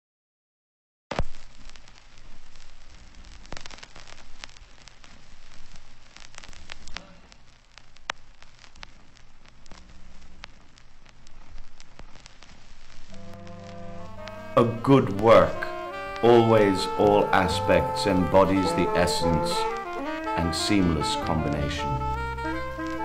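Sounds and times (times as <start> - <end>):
sharp pops and clicks: 1.1 - 13.4, 14.0 - 20.4, 22.0 - 23.0
record hiss and crackle: 1.1 - 23.0.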